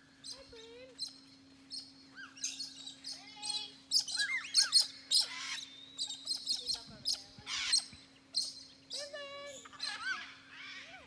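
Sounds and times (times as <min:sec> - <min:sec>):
parrots calling: 0:00.2 - 0:11.0.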